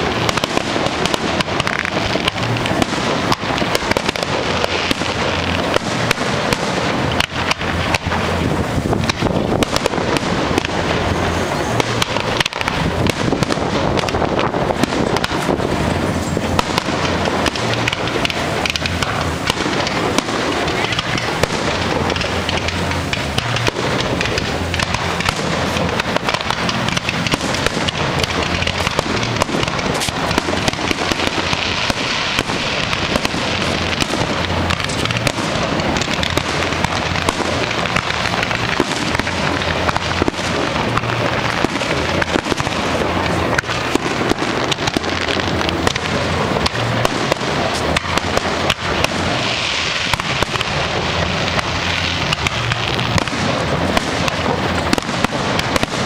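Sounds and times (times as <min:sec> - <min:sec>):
fireworks popping: 0:00.0 - 0:56.0.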